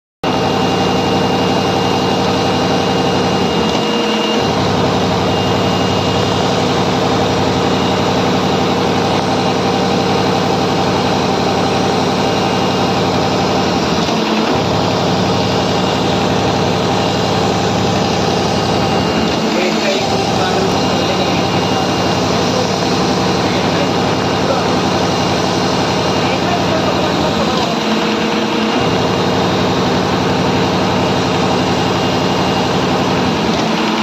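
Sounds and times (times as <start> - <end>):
industrial sewing machine running: 0.2 - 34.0.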